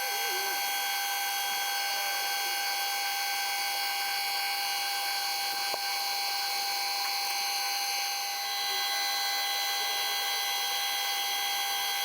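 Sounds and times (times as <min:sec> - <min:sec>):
machine tool motor whine: 0:00.0 - 0:12.0.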